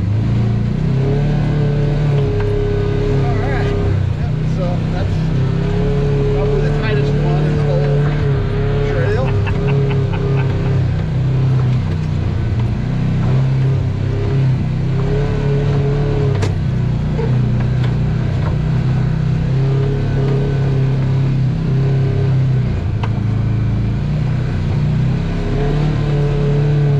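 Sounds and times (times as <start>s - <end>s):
off-road vehicle engine running: 0.0s - 26.9s.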